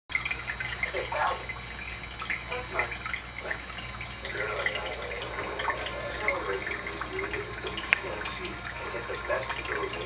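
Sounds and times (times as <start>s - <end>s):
low steady hum: 0.1s - 10.0s
water trickling and dripping: 0.1s - 10.0s.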